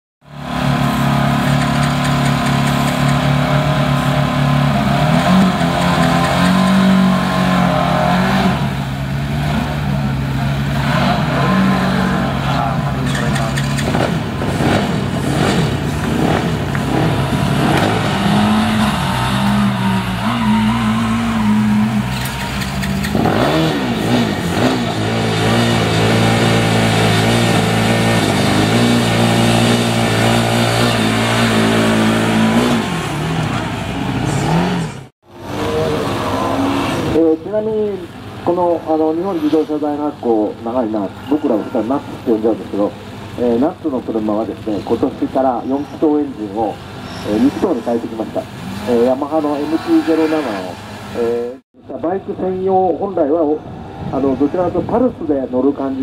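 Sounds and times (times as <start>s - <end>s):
race car engine revving: 0.2s - 51.6s.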